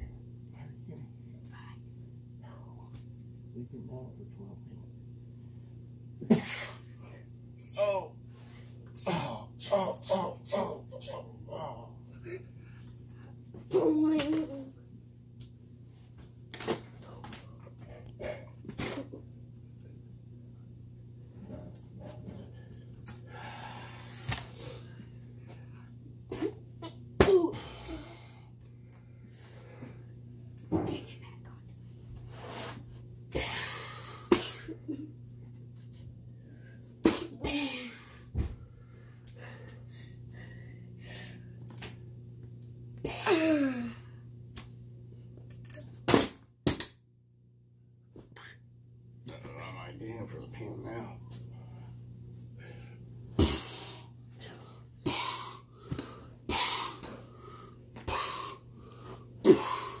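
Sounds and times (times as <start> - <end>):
steady low hum: 0.0 - 60.0.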